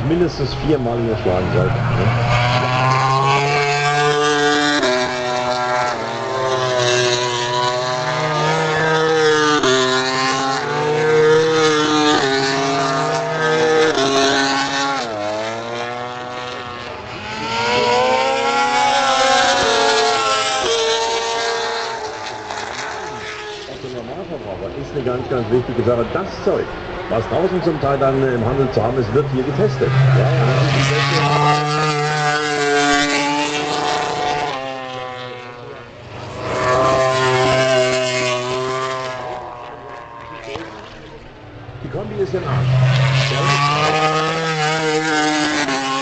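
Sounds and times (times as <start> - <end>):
racing motorcycles passing at high revs: 0.0 - 46.0.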